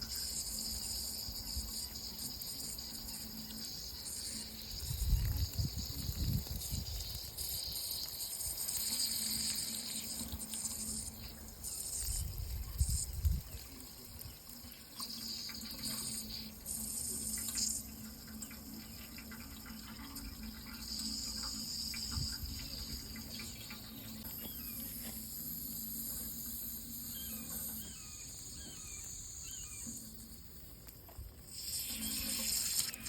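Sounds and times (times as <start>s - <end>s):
insects trilling: 0.0s - 33.0s
running water: 0.0s - 33.0s.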